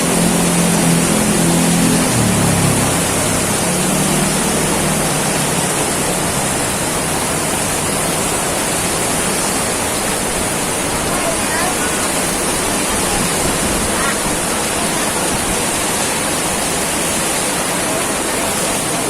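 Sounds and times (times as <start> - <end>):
heavy rain hissing: 0.0 - 19.0
low engine hum: 0.0 - 19.0.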